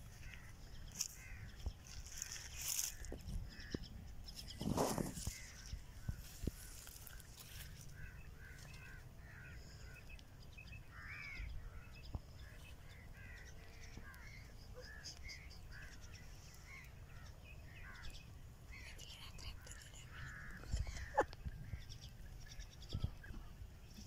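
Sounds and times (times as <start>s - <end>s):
birds calling: 0.0s - 24.0s.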